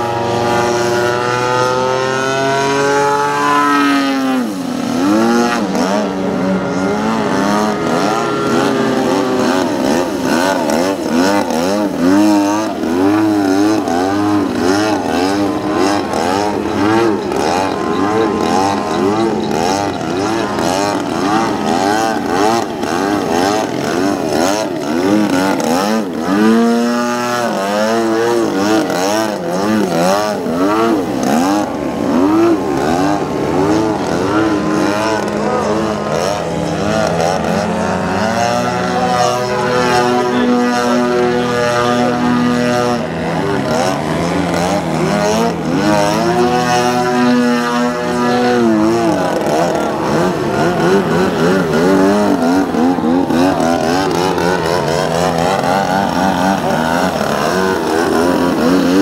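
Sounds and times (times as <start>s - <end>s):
model plane engine and propeller: 0.0s - 59.0s.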